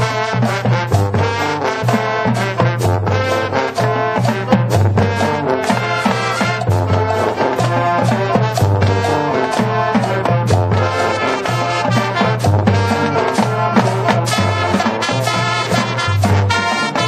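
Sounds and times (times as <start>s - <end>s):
brass section: 0.0s - 17.0s
drums: 0.0s - 17.0s
marching band playing: 0.0s - 17.0s.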